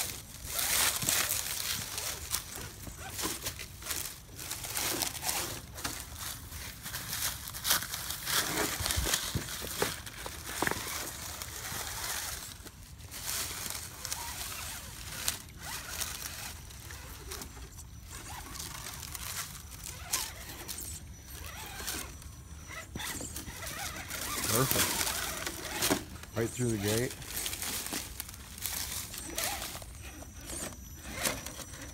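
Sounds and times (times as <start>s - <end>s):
leaves crunching underfoot: 0.0s - 31.9s.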